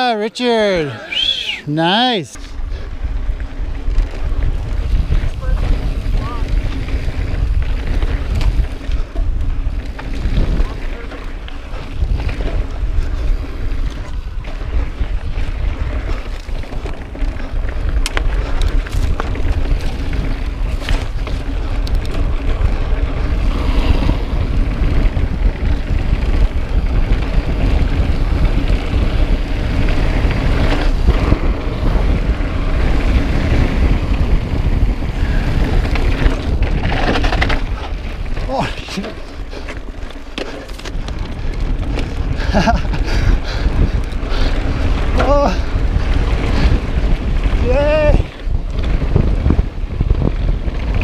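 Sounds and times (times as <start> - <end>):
wind buffeting microphone: 0.0 - 51.0
bike tyre rumble: 0.4 - 51.0
bike clicks and rattles: 2.3 - 51.0.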